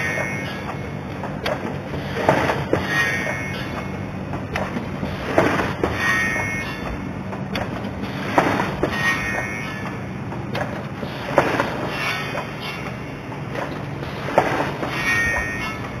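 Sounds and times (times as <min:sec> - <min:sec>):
sharp metallic knocks: 0:00.0 - 0:16.0.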